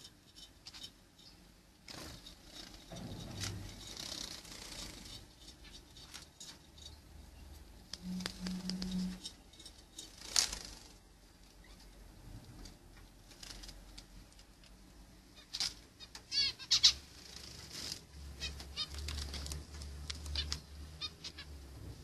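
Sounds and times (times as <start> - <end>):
birds clicking and scratching: 0.0 - 21.9.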